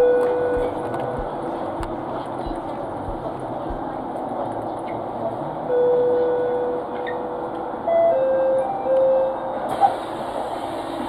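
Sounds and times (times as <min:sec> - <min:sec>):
train car rumble: 0:00.0 - 0:11.0.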